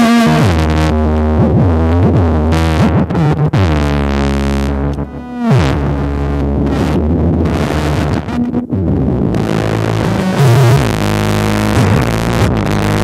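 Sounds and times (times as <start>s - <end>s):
drum machine beats: 0.0s - 13.0s
synth oscillators buzzing and swooping: 0.0s - 13.0s.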